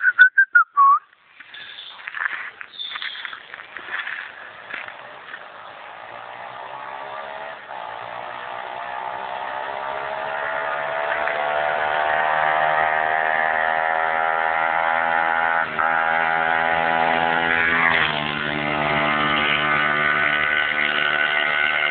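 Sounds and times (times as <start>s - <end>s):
motorbike engine under throttle: 3.8s - 21.9s.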